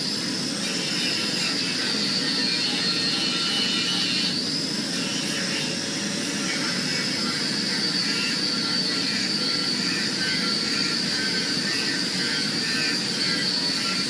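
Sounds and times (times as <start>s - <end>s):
machine roar with high hiss: 0.0s - 14.0s.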